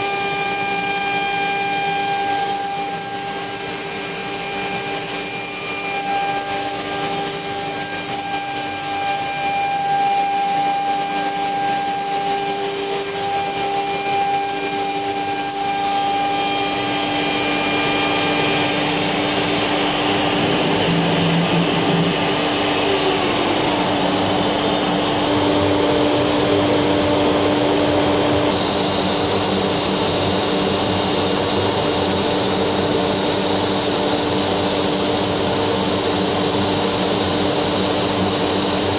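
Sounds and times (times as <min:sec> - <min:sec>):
router machine rushing: 0:00.0 - 0:38.9.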